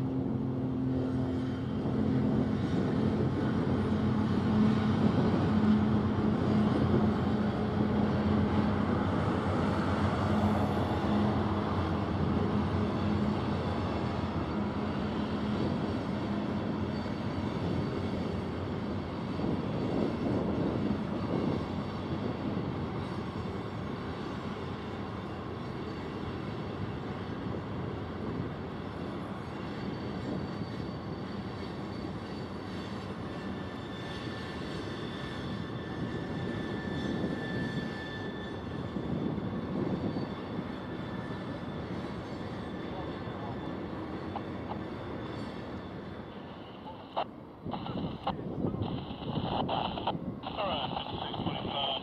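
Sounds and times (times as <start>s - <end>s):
train cars rumbling and clattering: 0.0s - 46.9s
locomotive engine humming: 0.0s - 52.0s.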